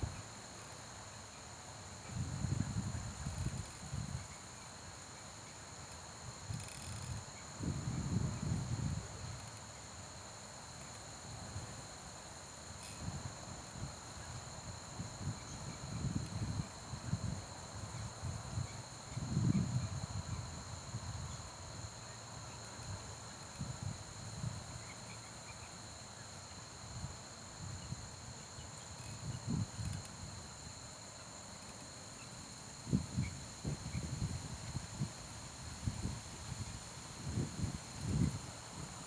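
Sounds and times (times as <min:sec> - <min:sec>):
crickets trilling: 0:00.0 - 0:39.0.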